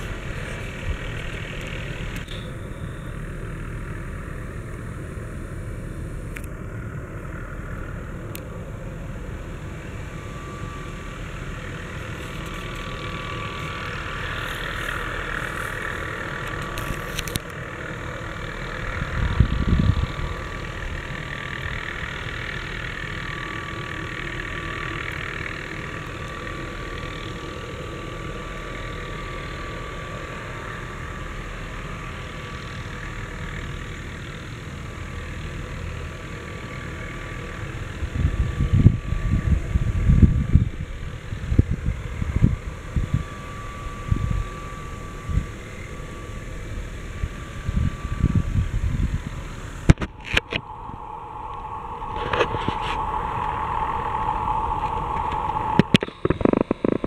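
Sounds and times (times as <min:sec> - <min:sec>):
helicopter hovering: 0:00.0 - 0:57.0.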